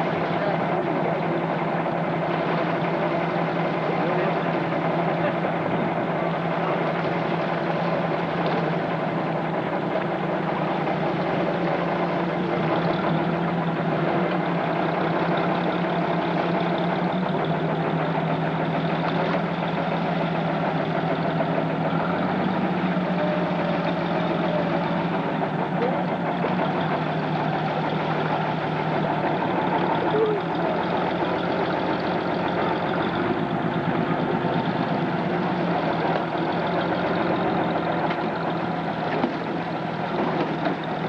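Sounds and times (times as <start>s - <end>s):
boat engine humming: 0.0s - 41.0s.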